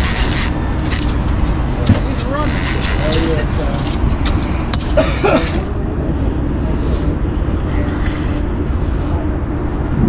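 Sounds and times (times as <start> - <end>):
boat engine running: 0.0 - 10.0
wind rumble on microphone: 0.0 - 10.0.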